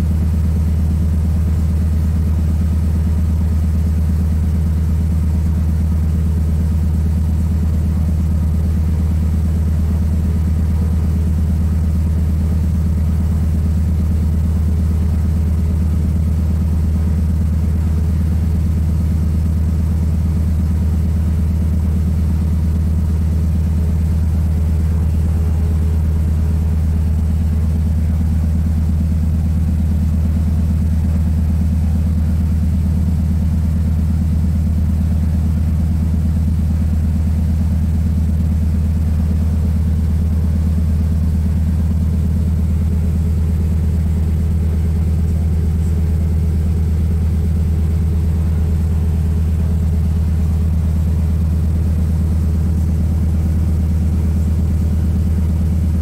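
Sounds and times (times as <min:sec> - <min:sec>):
floatplane engine droning: 0:00.0 - 0:56.0.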